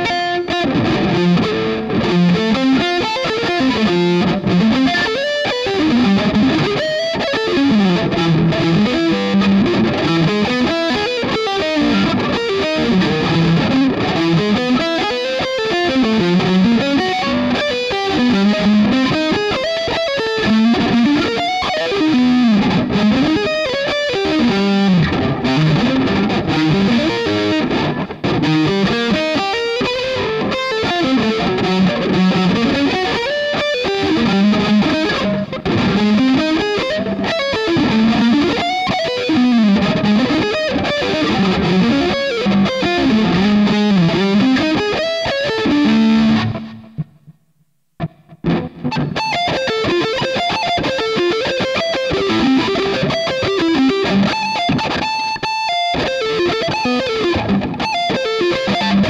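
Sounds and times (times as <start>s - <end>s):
distorted electric guitar runs: 0.0s - 47.3s, 48.0s - 59.0s.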